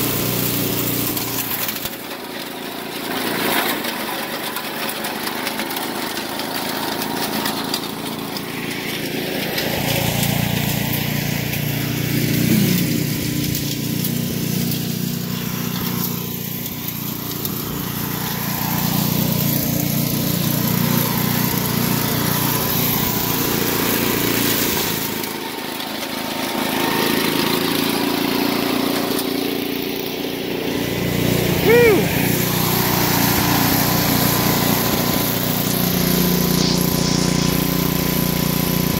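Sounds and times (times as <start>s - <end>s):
chipper engine running hard: 0.0s - 38.9s
machine chewing through brush: 0.0s - 38.9s.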